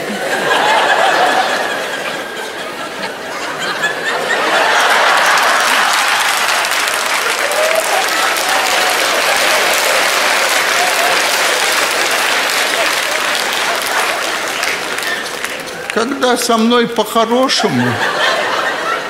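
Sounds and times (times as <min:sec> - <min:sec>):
audience applause: 0:00.0 - 0:16.9
audience laughing: 0:00.0 - 0:19.0.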